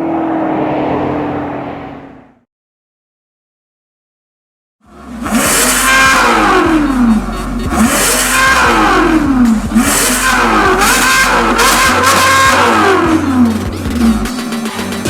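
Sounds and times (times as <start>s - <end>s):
car engine revving: 0.0s - 2.5s, 4.9s - 15.0s.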